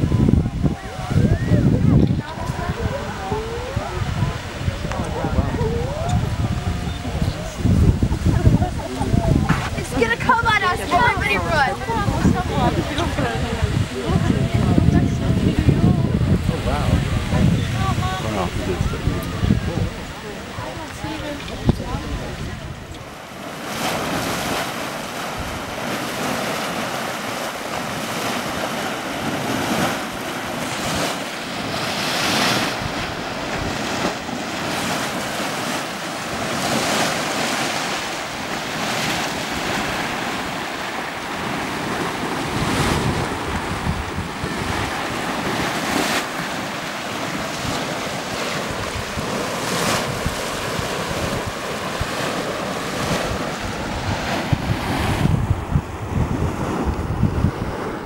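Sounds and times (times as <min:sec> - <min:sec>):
hot spring churning and sloshing: 0:00.0 - 0:58.0
wind buffeting microphone: 0:00.0 - 0:58.0.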